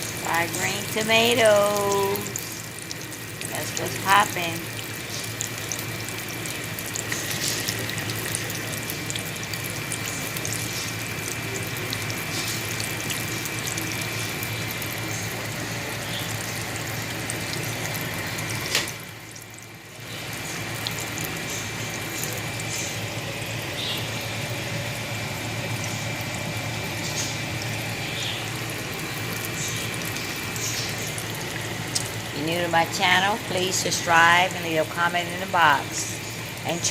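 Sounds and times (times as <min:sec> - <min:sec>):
tomato slices frying in oil: 0:00.0 - 0:36.9.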